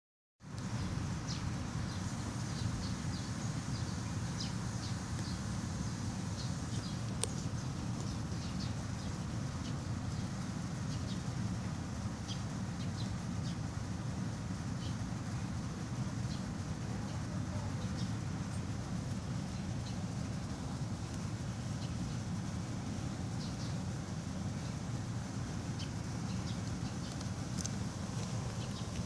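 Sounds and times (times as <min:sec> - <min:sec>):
steady low rumble: 0:00.5 - 0:29.0
birds chirping: 0:00.6 - 0:29.0.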